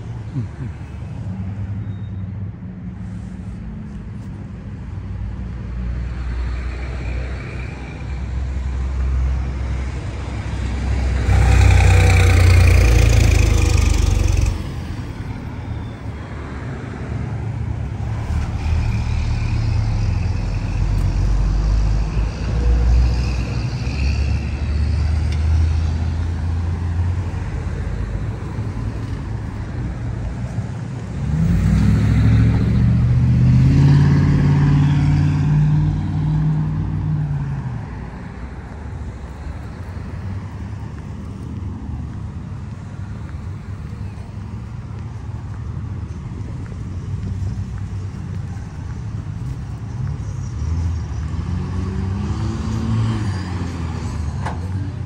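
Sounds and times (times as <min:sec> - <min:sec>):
road traffic rumble: 0:00.0 - 0:55.0
vehicle engine humming nearby: 0:00.0 - 0:55.0
loud vehicle passing: 0:05.6 - 0:30.1, 0:30.7 - 0:41.4, 0:45.6 - 0:55.0.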